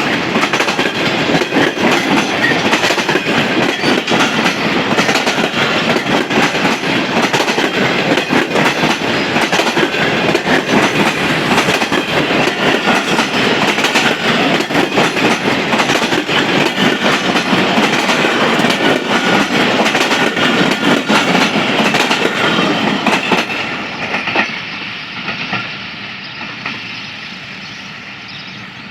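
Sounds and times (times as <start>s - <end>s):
train wheels clattering on rails: 0.0s - 28.5s.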